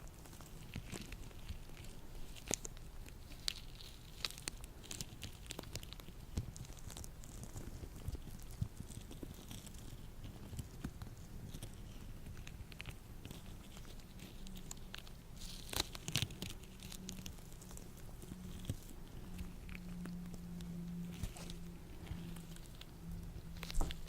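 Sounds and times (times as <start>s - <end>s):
latex gloves rubbing and crackling: 0.0s - 24.0s.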